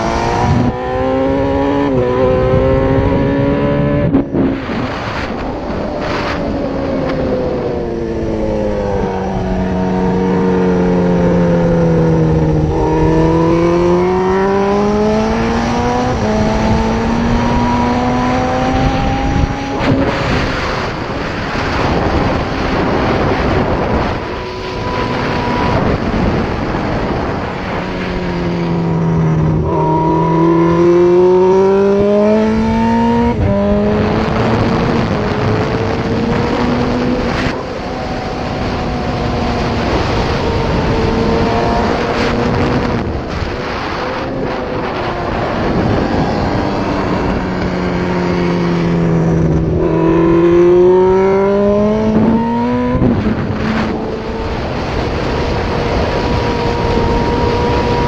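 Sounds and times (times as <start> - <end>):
heavy wind rush: 0.0 - 58.0
motorbike engine revving: 0.0 - 58.0.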